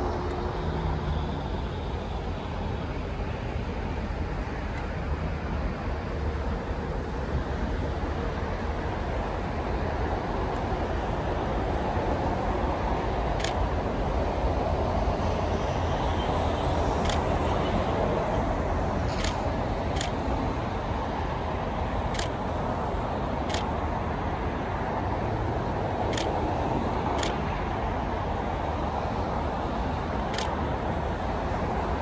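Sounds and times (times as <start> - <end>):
distant jet engines: 0.0 - 32.0
traffic rumble: 0.0 - 32.0.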